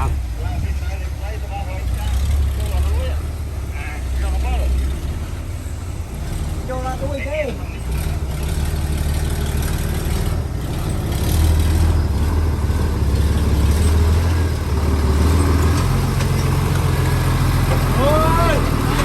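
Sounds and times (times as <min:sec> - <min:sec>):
heavy diesel engine rumbling: 0:00.0 - 0:19.0.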